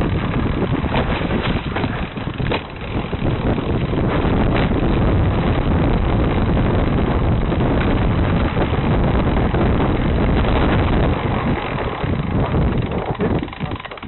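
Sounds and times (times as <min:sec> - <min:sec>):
mountain bike rumbling: 0:00.0 - 0:14.0
wind buffeting microphone: 0:00.0 - 0:14.0.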